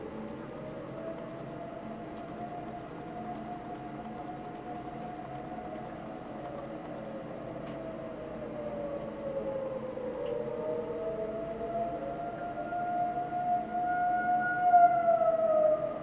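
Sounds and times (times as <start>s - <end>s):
tornado warning siren wail: 0.0s - 16.0s.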